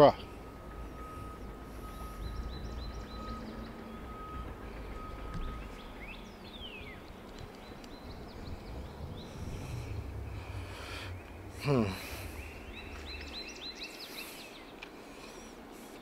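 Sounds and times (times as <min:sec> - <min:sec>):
birds chirping: 0:00.0 - 0:16.0
low outdoor rumble: 0:00.0 - 0:16.0.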